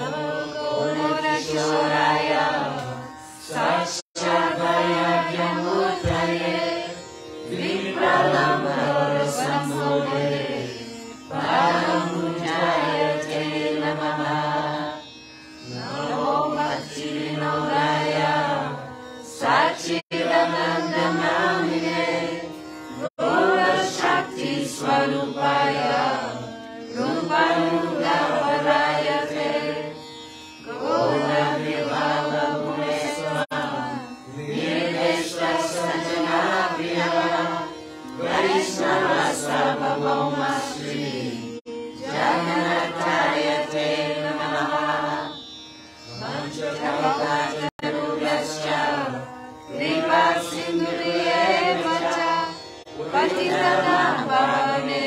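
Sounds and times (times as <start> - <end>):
man singing a chant: 0.0 - 15.0, 15.6 - 29.5, 30.7 - 45.4, 46.1 - 55.0.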